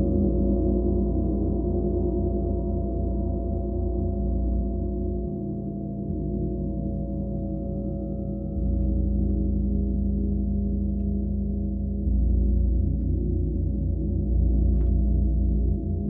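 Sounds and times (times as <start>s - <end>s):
large gong drone: 0.0s - 16.0s.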